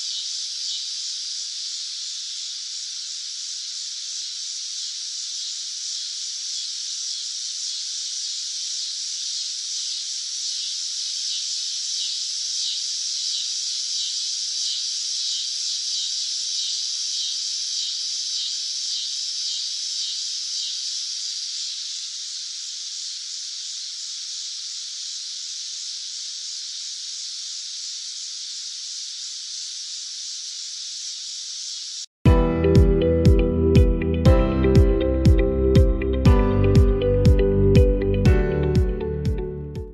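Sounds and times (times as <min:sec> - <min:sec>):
cicadas buzzing: 0:00.0 - 0:32.2.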